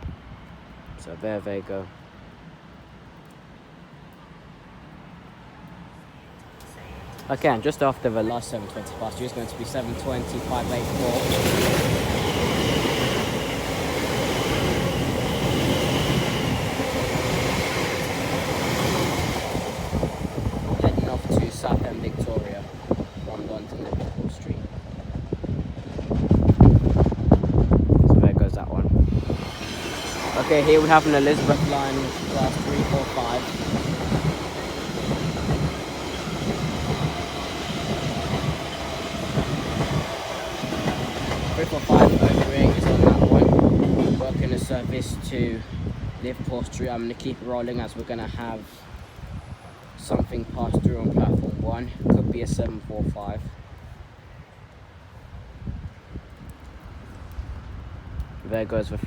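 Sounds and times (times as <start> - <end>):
train wheels rumbling on rail: 6.4 - 53.8.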